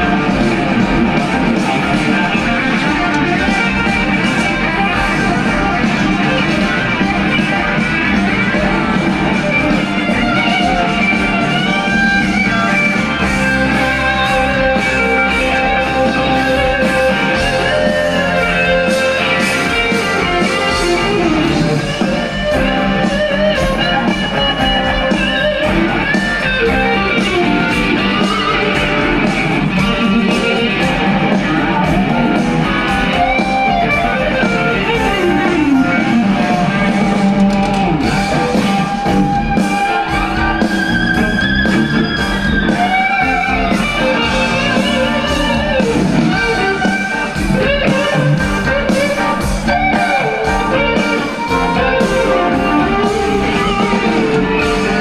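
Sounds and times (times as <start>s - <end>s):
live rock music: 0.0s - 55.0s.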